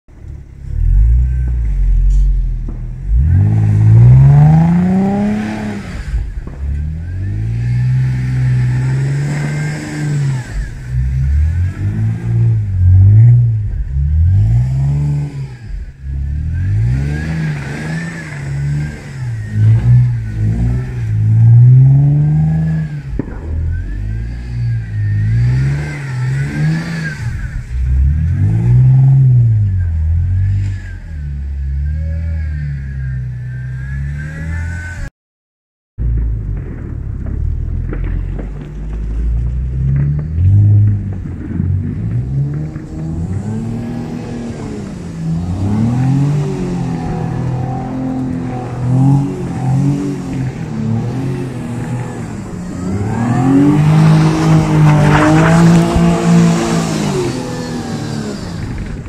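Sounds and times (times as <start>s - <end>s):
car engine revving hard: 3.0s - 33.1s, 39.9s - 59.0s.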